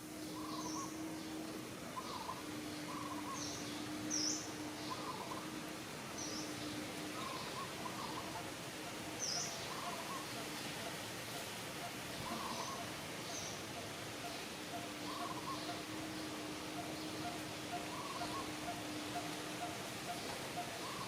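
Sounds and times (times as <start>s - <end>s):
background hiss: 0.0s - 21.0s
birds chirping: 0.0s - 21.0s.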